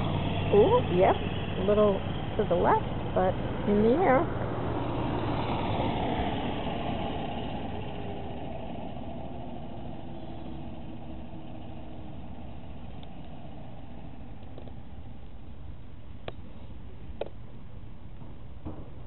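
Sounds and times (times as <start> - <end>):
motor engine running: 0.0 - 15.6.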